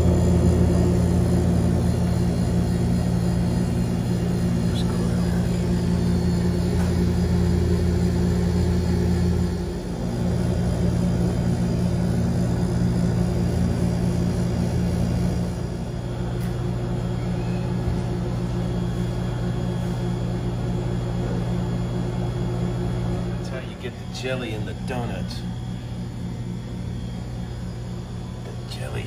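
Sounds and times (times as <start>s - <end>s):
refrigeration unit humming: 0.0s - 29.0s.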